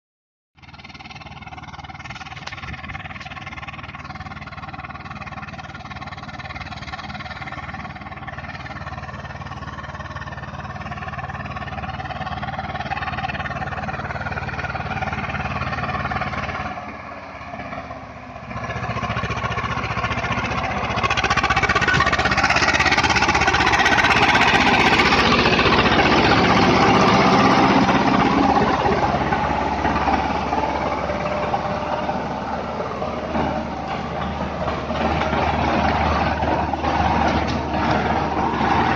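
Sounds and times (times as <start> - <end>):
tractor diesel engine running: 0.6 - 38.9.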